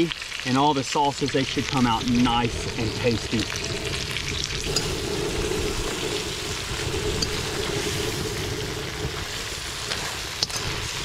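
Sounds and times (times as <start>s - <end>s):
crab sizzling in hot oil: 0.0s - 11.0s
wind rumble on microphone: 1.5s - 11.0s.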